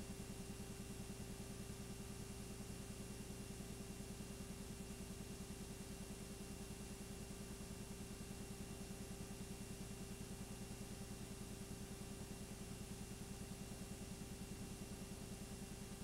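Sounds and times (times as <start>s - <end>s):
low mechanical hum with flutter: 0.0s - 16.0s.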